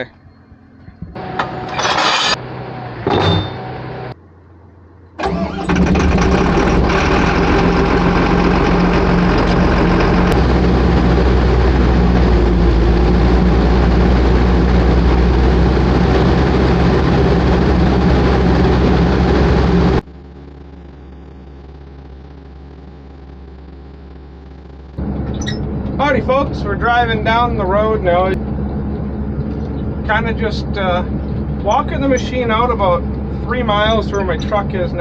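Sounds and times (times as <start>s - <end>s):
diesel engine cranking and idling: 1.1s - 35.0s.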